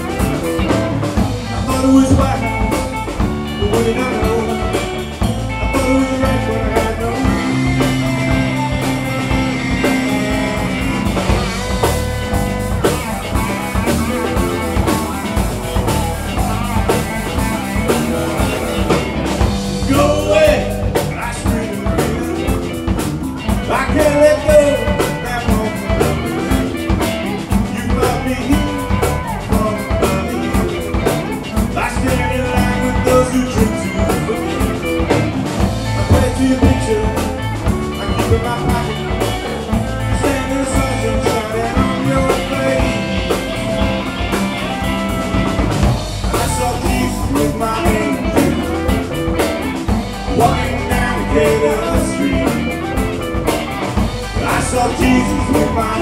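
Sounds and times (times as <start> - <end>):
bass guitar: 0.0 - 56.0
drum kit steady beat: 0.0 - 56.0
guitars: 0.0 - 56.0
rock band playing: 0.0 - 56.0.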